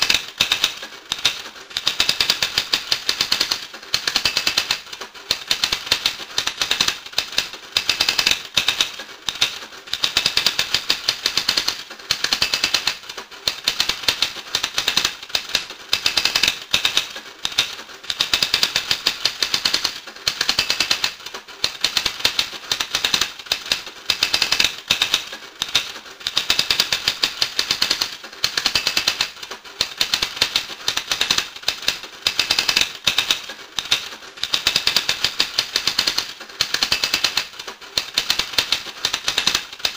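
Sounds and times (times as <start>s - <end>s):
rapid mechanical clicking: 0.0s - 39.9s.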